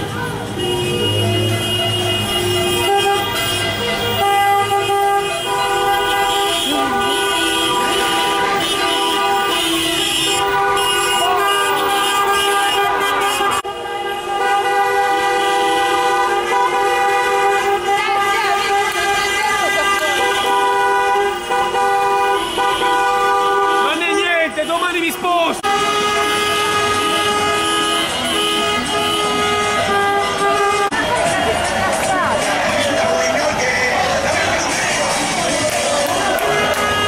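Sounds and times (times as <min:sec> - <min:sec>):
many car horns honking: 0:00.0 - 0:37.0.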